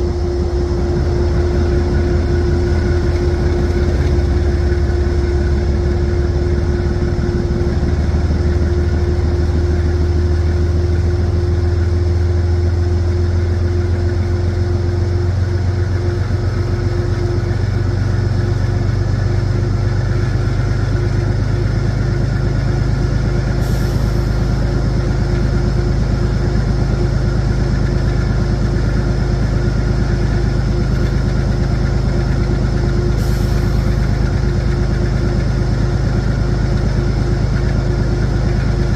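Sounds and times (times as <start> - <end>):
diesel locomotive engine running: 0.0 - 38.9.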